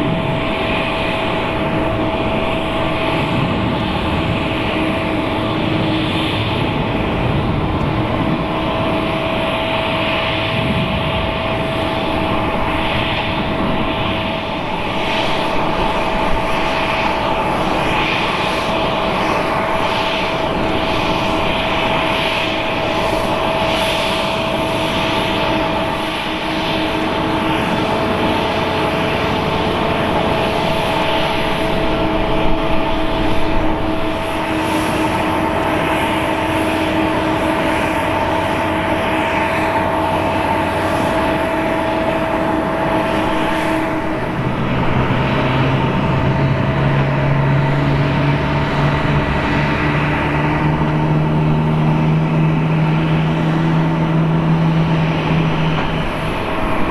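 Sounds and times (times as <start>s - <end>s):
engine rushing noise: 0.0s - 56.9s
jet engines whining: 0.0s - 56.9s.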